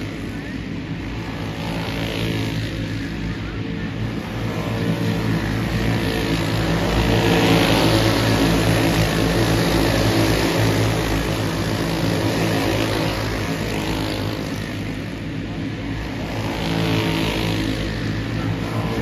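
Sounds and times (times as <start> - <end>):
racing kart engines: 0.0 - 19.0.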